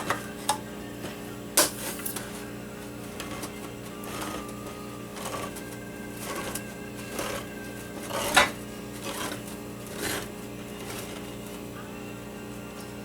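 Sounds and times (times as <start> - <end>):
can opener scraping: 0.0 - 11.8.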